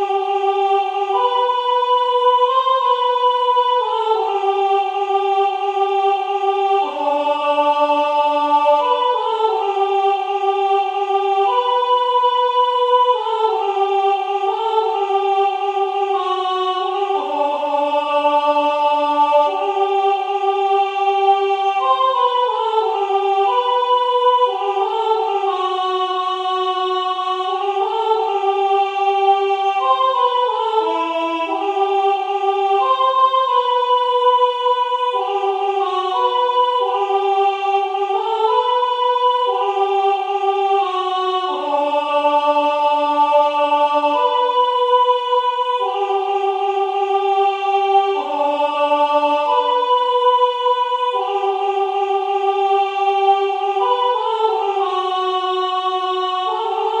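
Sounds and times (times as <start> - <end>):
synthesized choir hymn: 0.0 - 57.0.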